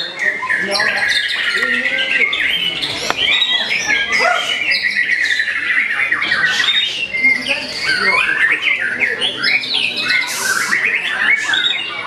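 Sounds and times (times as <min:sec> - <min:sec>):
bird singing whistles and trills: 0:00.0 - 0:12.0.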